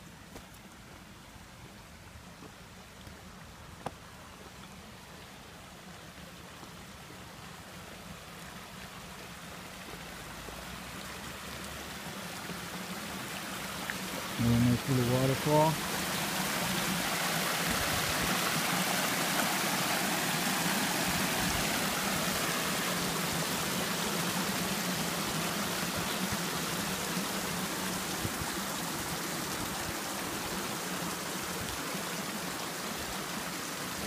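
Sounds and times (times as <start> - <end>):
waterfall and stream rushing: 0.0 - 34.0.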